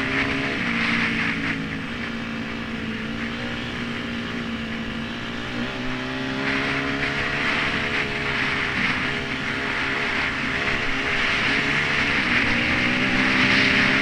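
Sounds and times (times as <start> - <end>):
dirt bike engine running: 0.0 - 14.0
wind rushing over microphone: 0.0 - 14.0.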